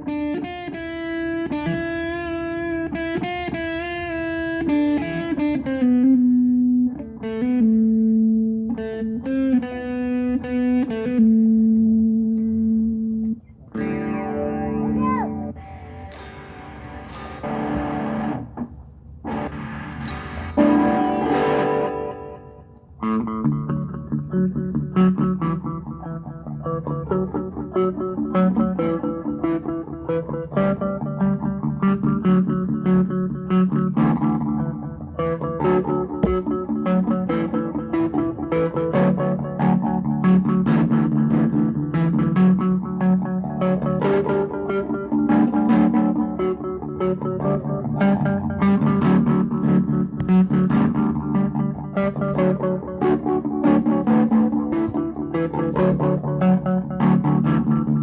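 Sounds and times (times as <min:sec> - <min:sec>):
electric guitar playing: 0:00.0 - 0:58.0.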